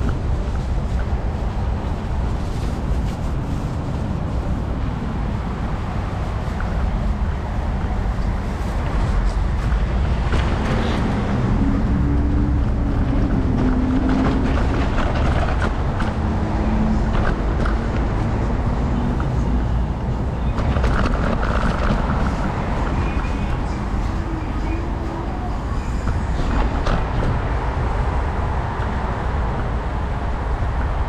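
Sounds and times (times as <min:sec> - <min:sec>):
wheels rolling over pavement: 0:00.0 - 0:31.0
wind buffeting microphone: 0:00.0 - 0:31.0.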